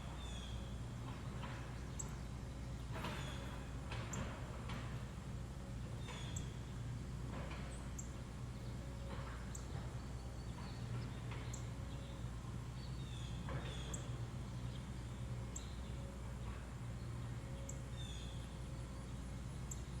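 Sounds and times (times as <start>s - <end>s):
low background hum: 0.0s - 20.0s
songbirds chirping: 0.0s - 20.0s.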